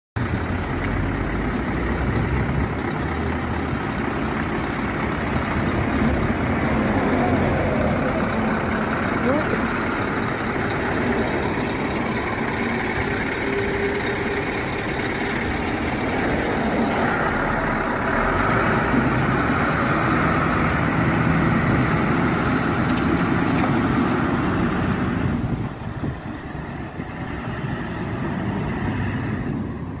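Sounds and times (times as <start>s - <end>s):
diesel truck engine passing: 0.2s - 30.0s.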